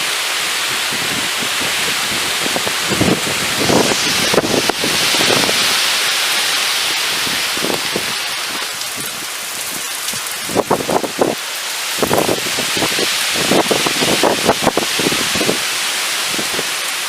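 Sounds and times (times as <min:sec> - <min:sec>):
heavy rain falling: 0:00.0 - 0:17.0
rain spatters: 0:00.0 - 0:17.0.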